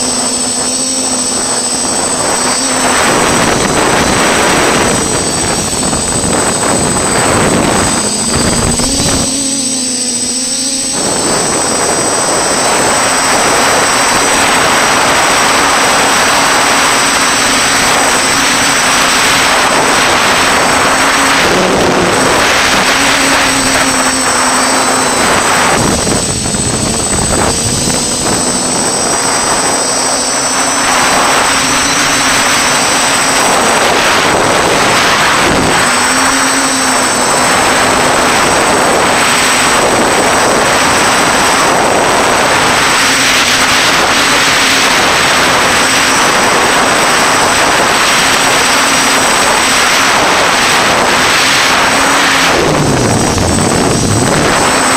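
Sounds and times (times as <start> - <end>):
drone motors whining: 0.0 - 54.9
rushing wind: 0.0 - 54.9.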